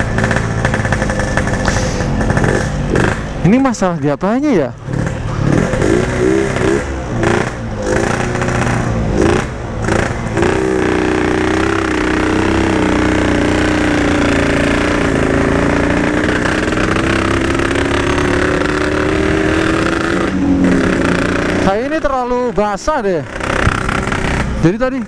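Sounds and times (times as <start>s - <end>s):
motorcycle engine revving and idling: 0.0s - 25.0s.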